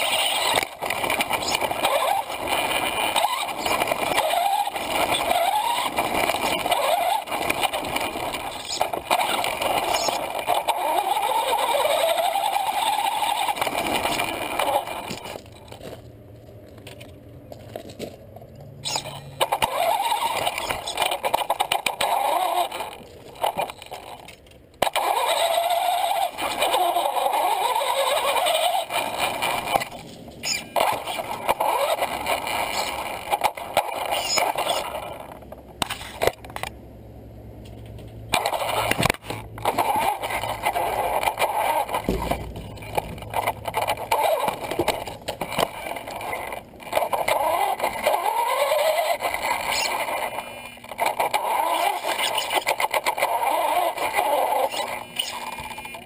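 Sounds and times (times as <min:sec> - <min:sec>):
tyre and chassis rattle: 0:00.0 - 0:36.8, 0:37.5 - 0:56.0.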